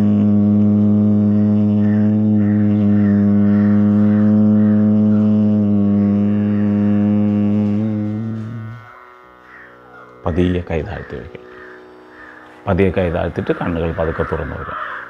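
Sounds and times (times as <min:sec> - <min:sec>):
person humming: 0:00.0 - 0:14.8.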